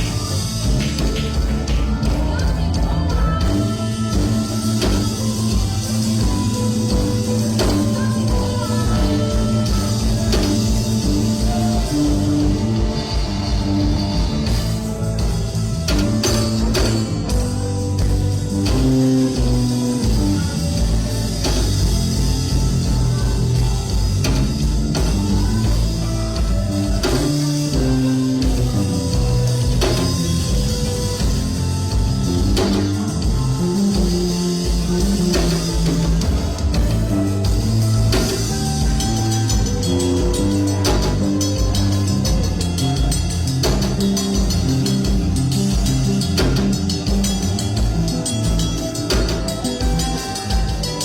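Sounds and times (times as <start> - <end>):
bass: 0.0 - 51.0
drums: 0.0 - 51.0
guitar: 0.0 - 51.0.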